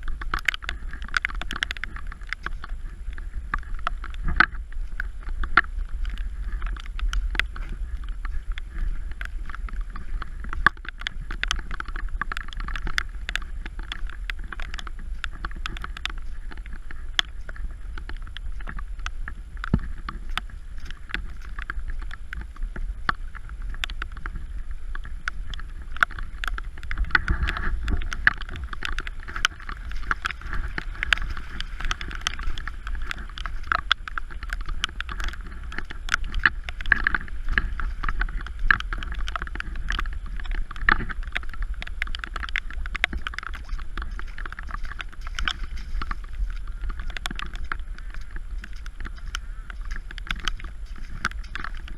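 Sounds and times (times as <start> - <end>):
heavy rain falling: 0.0 - 51.9
wind rumble on microphone: 0.0 - 51.9.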